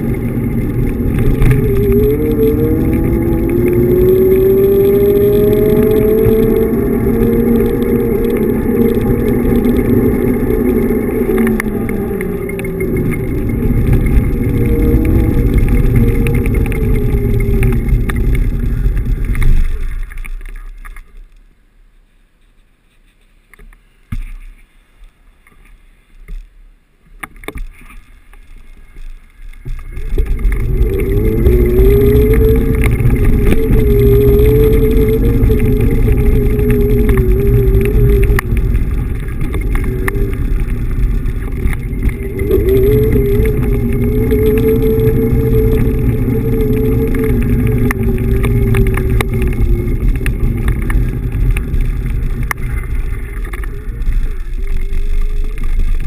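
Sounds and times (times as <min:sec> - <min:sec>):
wavering hum: 0:00.0 - 0:23.2, 0:27.5 - 0:56.0
wind and tyres rumbling: 0:00.0 - 0:56.0.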